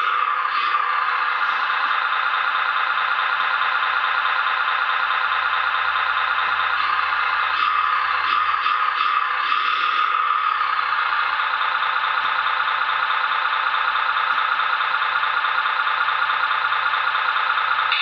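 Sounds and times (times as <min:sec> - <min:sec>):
toy truck motor humming: 0:00.0 - 0:18.0.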